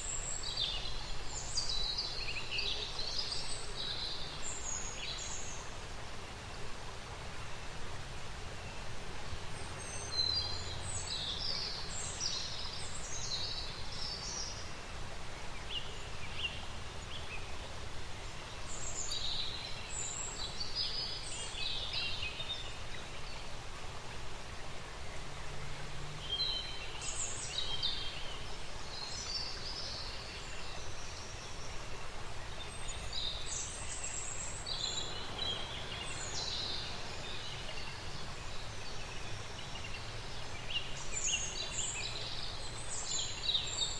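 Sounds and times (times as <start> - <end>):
background hiss: 0.0 - 43.9.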